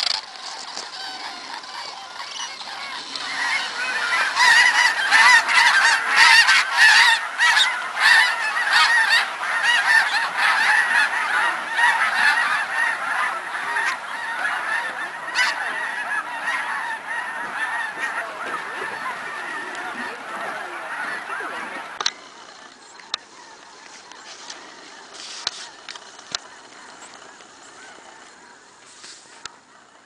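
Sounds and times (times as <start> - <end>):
geese honking: 0.0 - 30.0.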